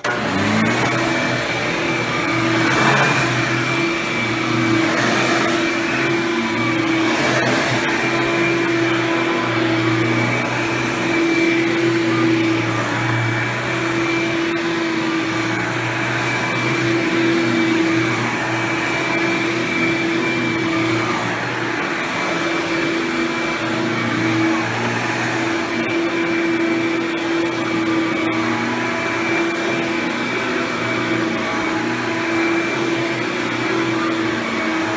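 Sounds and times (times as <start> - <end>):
vacuum cleaner motor drone: 0.0 - 34.9.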